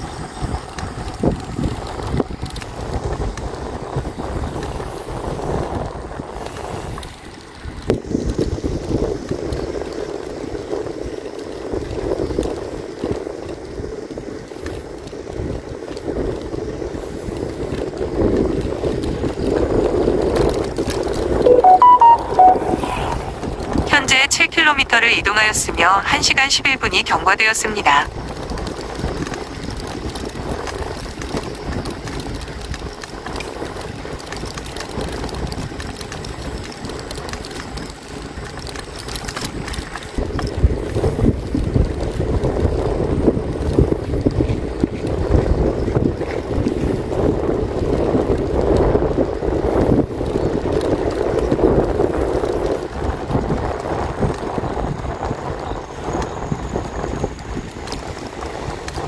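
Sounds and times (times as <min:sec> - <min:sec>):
tyre and road noise: 0:00.0 - 0:21.4, 0:28.0 - 0:59.0
wind buffeting microphone: 0:00.0 - 0:21.4, 0:27.9 - 0:59.0.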